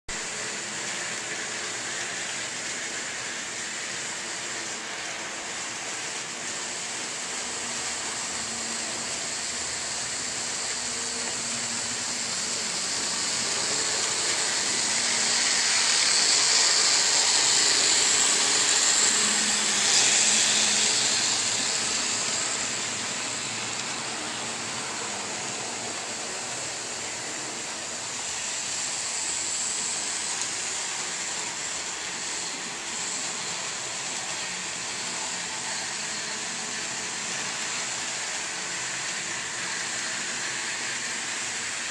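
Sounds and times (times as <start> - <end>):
model trains whirring on rails: 0.1 - 41.9.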